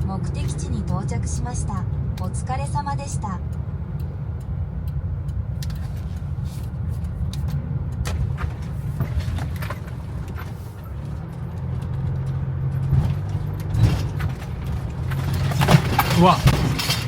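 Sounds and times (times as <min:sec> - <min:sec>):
van engine drone: 0:00.0 - 0:17.0.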